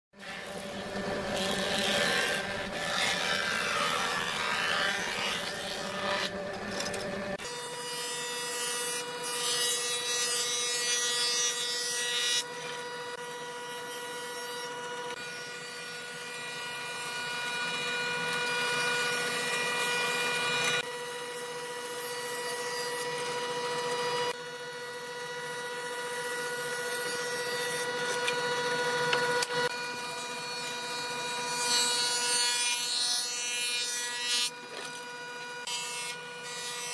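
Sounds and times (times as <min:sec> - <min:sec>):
wood planer cutterhead whining: 0:00.1 - 0:36.9.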